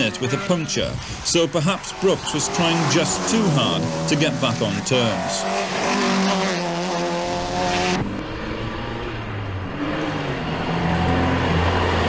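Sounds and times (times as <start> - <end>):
rally car engine running hard: 1.1 - 12.0.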